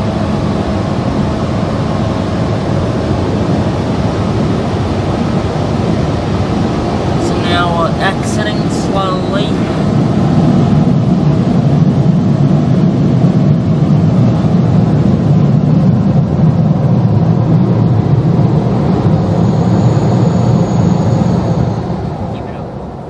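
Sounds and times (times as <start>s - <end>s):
air-dryer blowers blasting: 0.0s - 23.0s.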